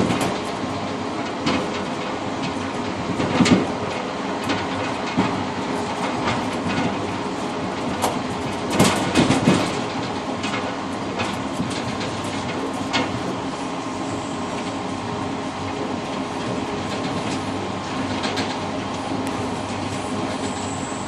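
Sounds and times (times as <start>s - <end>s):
train wheels rumbling on rails: 0.0s - 21.0s
wheels clacking over rail joints: 0.0s - 21.0s.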